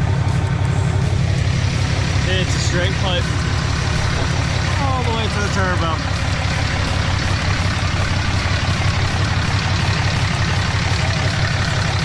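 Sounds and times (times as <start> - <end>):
diesel engine idling rumble: 0.0 - 12.0.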